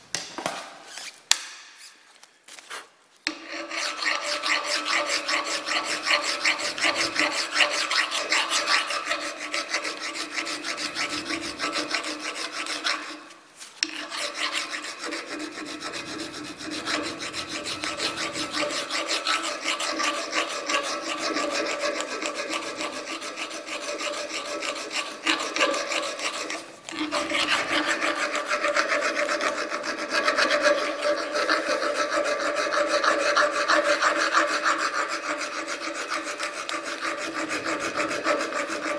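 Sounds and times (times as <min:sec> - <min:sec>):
file rasping on metal: 0:03.3 - 0:38.9.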